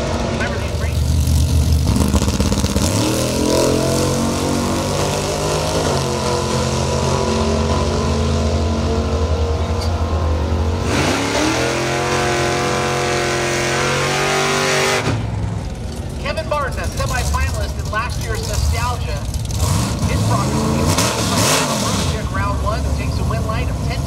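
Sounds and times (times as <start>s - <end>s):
drag racing cars accelerating: 0.0s - 24.0s.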